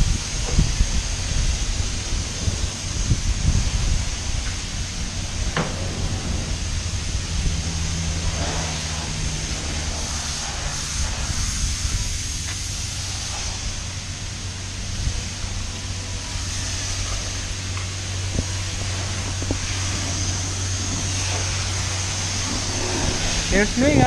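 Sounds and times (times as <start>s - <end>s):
low hum: 0.0s - 24.0s
pressure washer spraying water: 0.0s - 24.0s.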